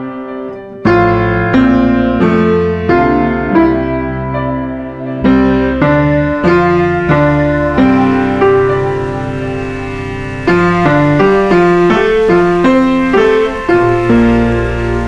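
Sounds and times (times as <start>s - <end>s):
slow piano-like keyboard music: 0.0s - 15.0s
sustained bass: 0.9s - 15.0s.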